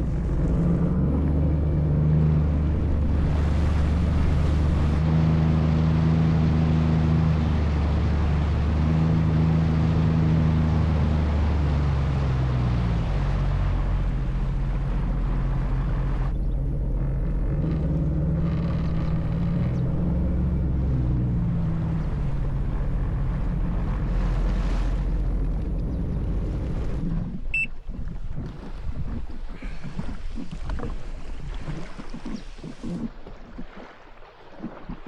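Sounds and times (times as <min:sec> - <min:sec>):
jet ski engine humming: 0:00.0 - 0:34.9
water wash: 0:00.0 - 0:35.0.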